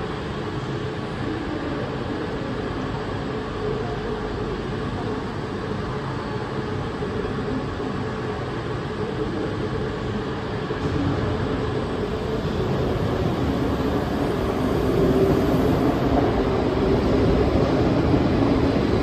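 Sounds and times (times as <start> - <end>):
train rumbling into station: 0.0 - 19.0.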